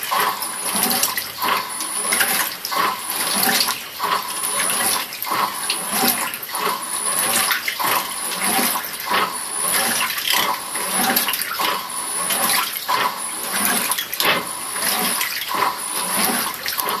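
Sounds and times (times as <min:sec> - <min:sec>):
washing machine water sloshing: 0:00.0 - 0:17.0.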